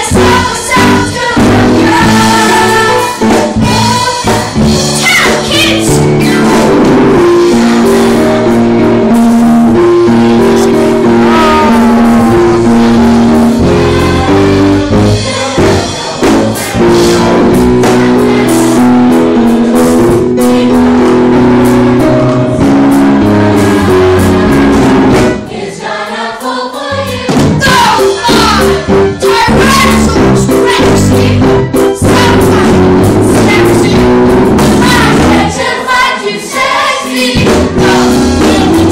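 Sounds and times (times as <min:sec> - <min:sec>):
children's chorus singing: 0:00.0 - 0:09.1, 0:09.7 - 0:31.4, 0:32.0 - 0:38.9
band accompaniment with steady beat: 0:00.0 - 0:38.9.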